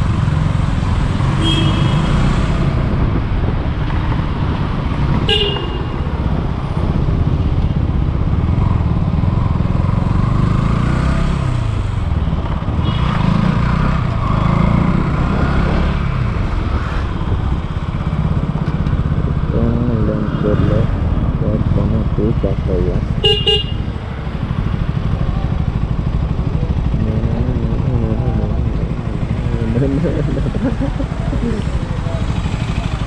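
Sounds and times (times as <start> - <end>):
motorcycle engine running: 2.9 - 33.0.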